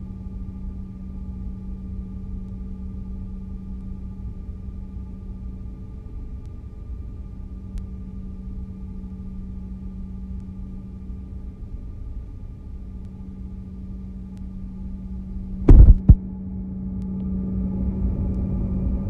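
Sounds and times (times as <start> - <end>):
jet cabin engine rumble: 0.0 - 16.8.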